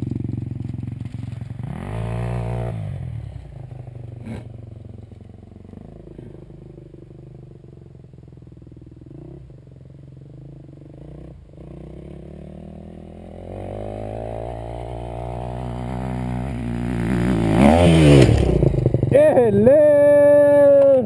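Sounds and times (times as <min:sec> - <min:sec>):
dirt bike engine revving: 0:00.0 - 0:07.6, 0:08.8 - 0:21.0.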